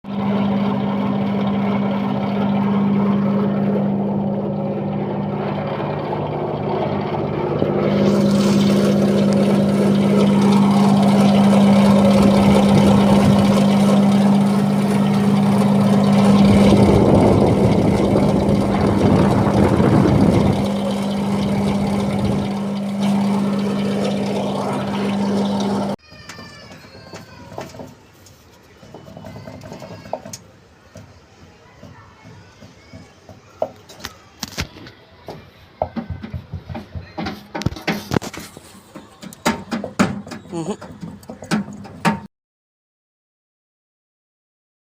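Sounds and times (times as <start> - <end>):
air conditioner unit humming: 0.1 - 42.2.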